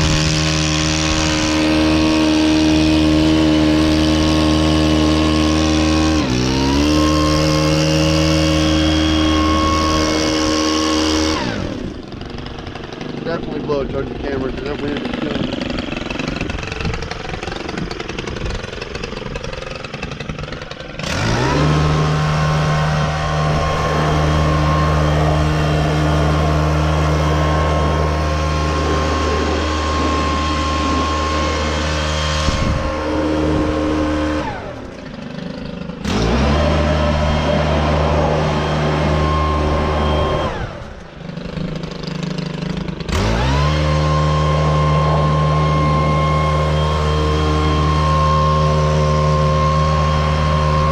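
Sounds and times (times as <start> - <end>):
leaf blower revving: 0.0 - 50.9.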